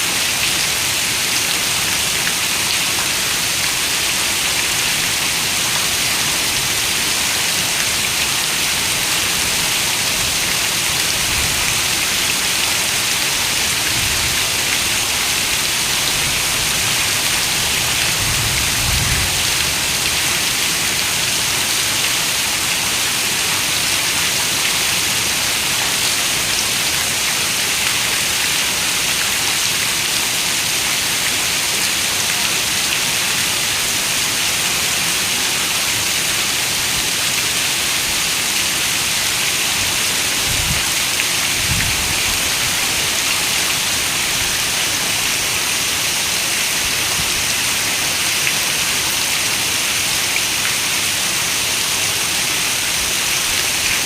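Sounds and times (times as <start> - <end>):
heavy rain on a window: 0.2 - 54.0.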